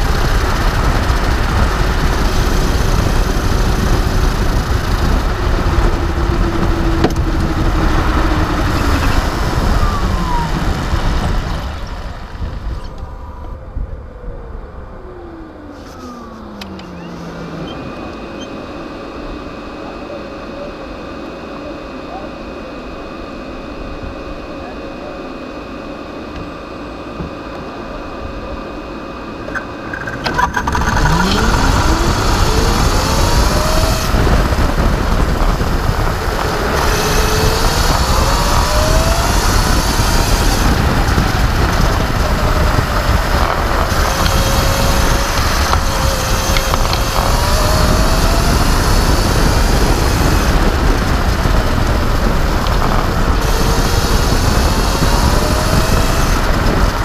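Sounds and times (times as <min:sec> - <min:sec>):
electric kart motor whine: 0:00.0 - 0:57.0
loud wind: 0:00.0 - 0:57.0
road rumble: 0:00.0 - 0:57.0.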